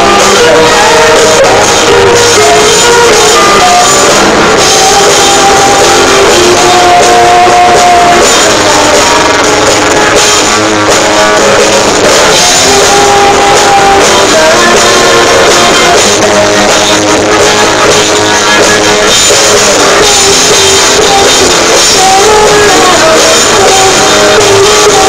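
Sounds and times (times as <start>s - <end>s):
drum kit: 0.0s - 25.0s
electric guitars: 0.0s - 25.0s
woman singing lead: 0.0s - 25.0s.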